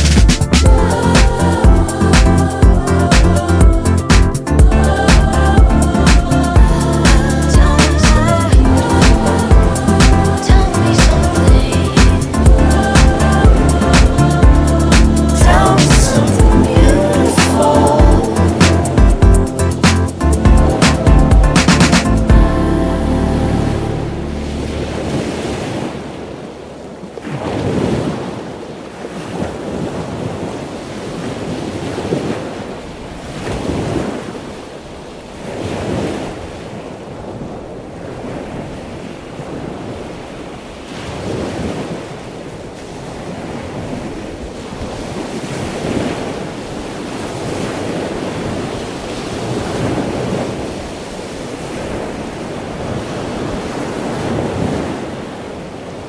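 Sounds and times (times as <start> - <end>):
waves washing onto beach: 0.0 - 22.3, 22.9 - 56.0.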